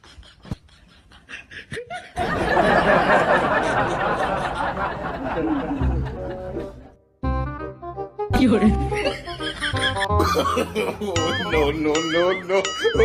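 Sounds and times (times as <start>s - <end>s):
laughter: 0.0s - 6.8s, 8.8s - 13.0s.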